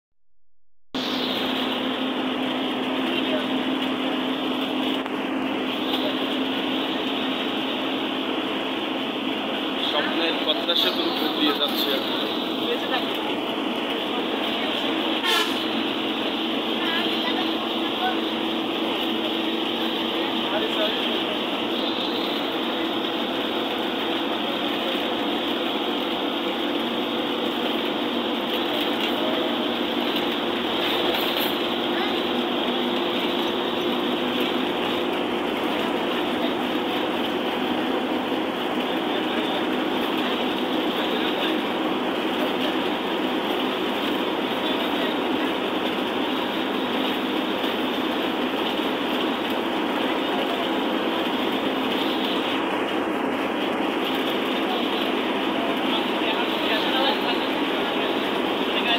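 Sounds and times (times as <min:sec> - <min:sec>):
road and tyre rumble: 0:00.9 - 0:58.9
bus engine hum: 0:01.0 - 0:58.9.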